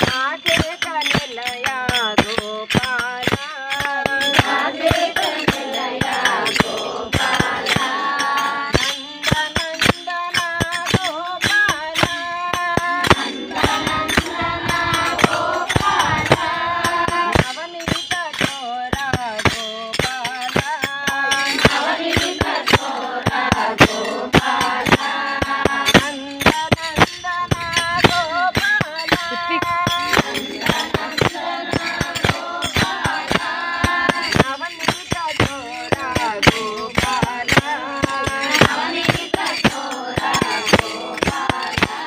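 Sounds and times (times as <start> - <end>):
hand claps: 0.0 - 42.0
small hand cymbals clinking: 0.0 - 42.0
women singing in unison: 3.2 - 18.0, 20.3 - 34.8, 35.4 - 42.0.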